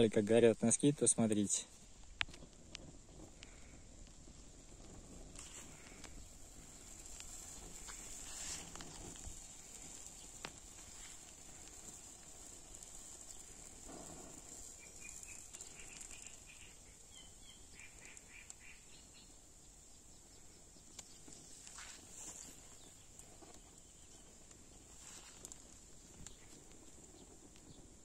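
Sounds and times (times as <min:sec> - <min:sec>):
fire crackling: 0:00.0 - 0:28.0
steady high hiss: 0:00.0 - 0:28.0.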